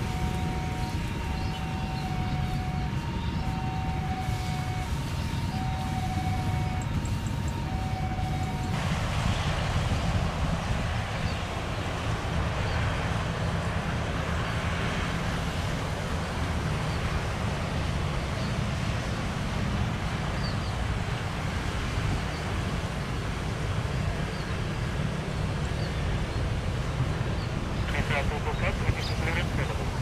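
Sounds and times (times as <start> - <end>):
road traffic passing: 0.0 - 30.0
wind buffeting microphone: 0.0 - 30.0.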